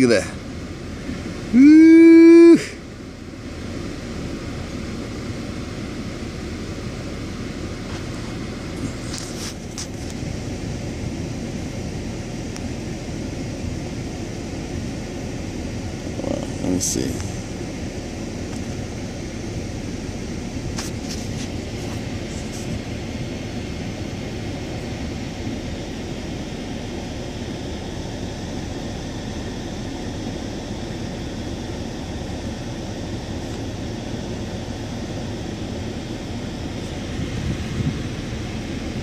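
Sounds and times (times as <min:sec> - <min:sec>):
low background drone: 0:00.0 - 0:39.0.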